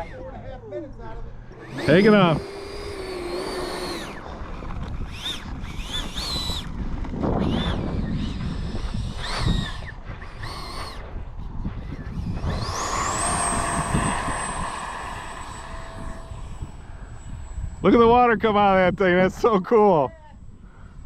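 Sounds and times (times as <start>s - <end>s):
electric jet motors whining: 1.4s - 19.6s.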